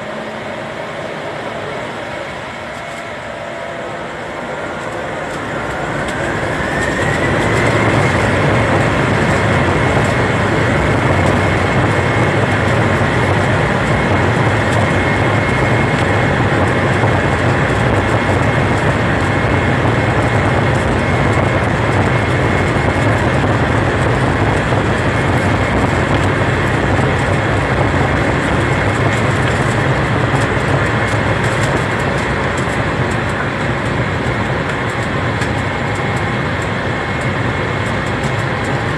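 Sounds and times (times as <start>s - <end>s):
engine and runway rush: 0.0s - 38.9s
jet engine whine: 0.0s - 38.9s.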